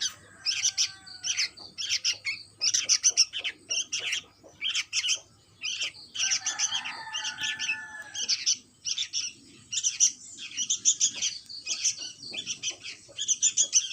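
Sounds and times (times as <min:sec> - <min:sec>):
chicks chirping: 0:00.0 - 0:13.9.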